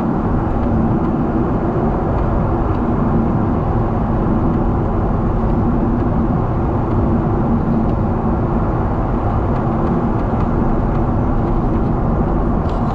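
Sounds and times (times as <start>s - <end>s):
airplane cabin engine rumble: 0.0s - 12.9s.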